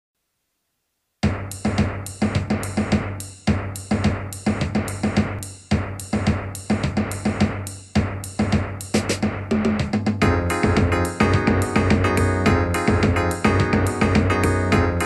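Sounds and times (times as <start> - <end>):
drum kit rhythm: 1.2 - 15.0
steady bass line: 1.2 - 15.0.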